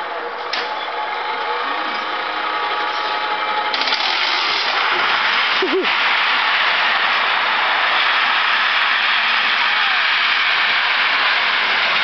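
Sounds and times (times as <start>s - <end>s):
coaster wheels rushing on track: 0.0s - 12.0s.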